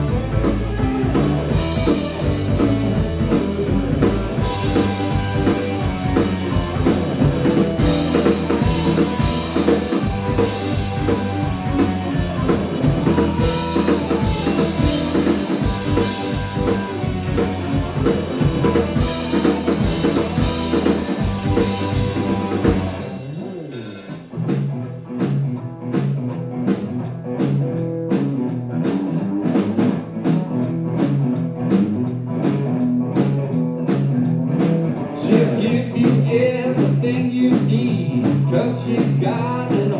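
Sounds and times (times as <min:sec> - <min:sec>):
rock band playing instrumental: 0:00.0 - 0:39.9.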